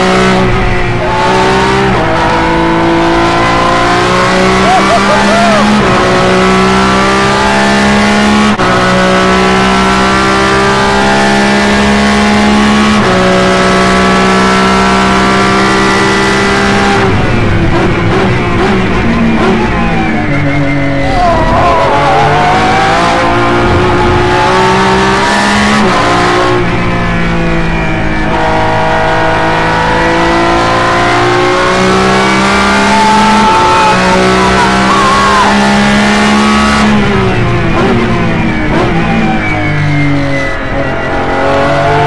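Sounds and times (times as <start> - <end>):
racing car engine revving: 0.0 - 42.0.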